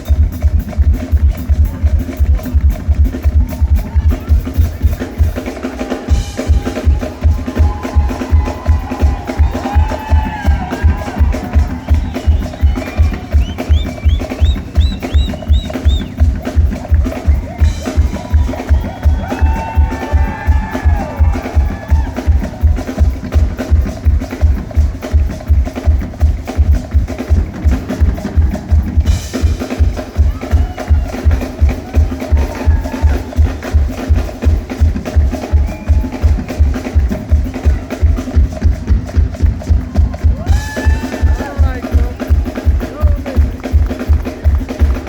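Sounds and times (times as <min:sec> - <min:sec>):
live band playing dance music: 0:00.0 - 0:45.0.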